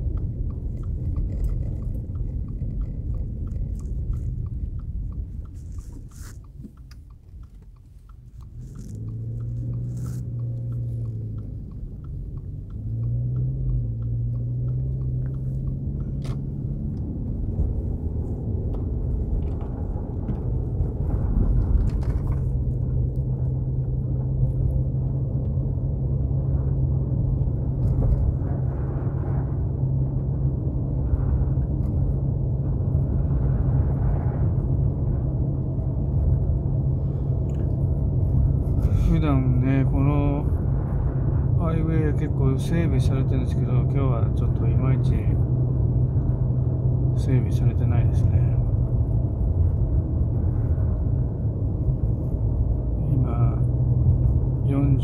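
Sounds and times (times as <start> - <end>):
car engine hum: 0.0 - 55.0.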